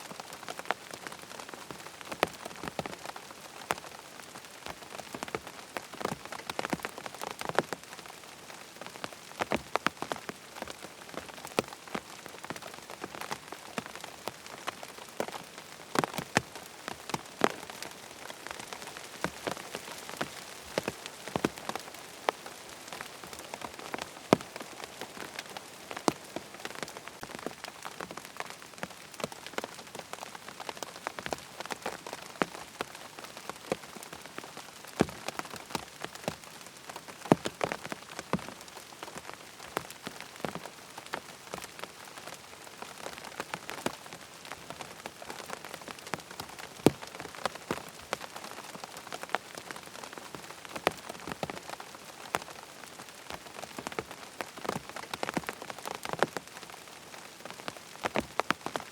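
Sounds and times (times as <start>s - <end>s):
fine rain hissing on tent: 0.0s - 58.9s
heavy raindrops striking fabric: 0.0s - 58.9s.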